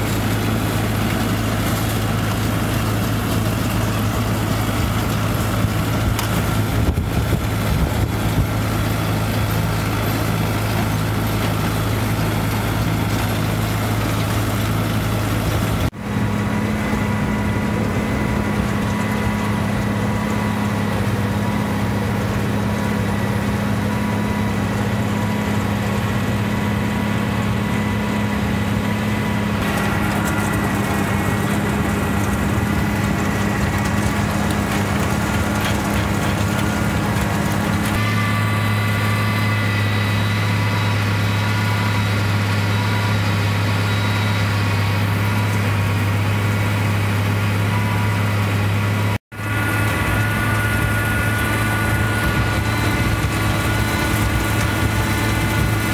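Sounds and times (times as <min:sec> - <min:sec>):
tractor engine and machinery drone: 0:00.0 - 0:55.9.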